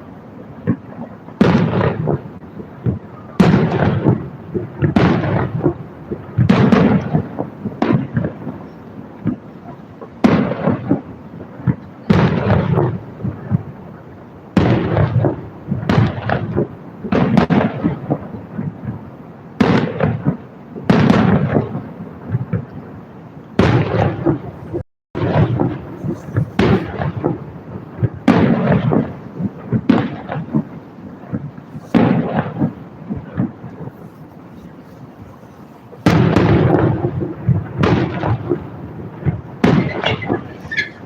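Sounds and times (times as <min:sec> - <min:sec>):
fireworks booming: 0:00.6 - 0:41.0.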